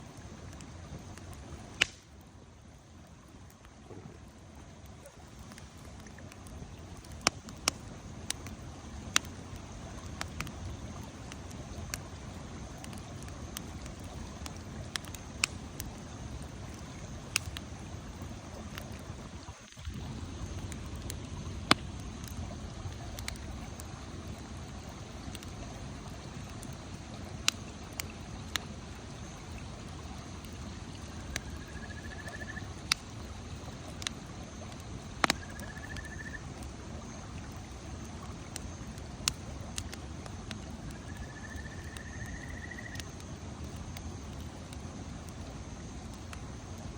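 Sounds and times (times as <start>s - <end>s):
campfire rushing: 0.0s - 46.9s
fire crackling and popping: 0.0s - 46.9s.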